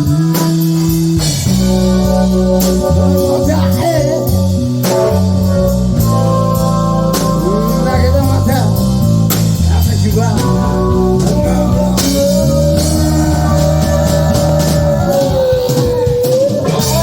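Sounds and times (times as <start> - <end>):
live rock band playing: 0.0 - 17.0
held lead guitar note: 0.8 - 17.0.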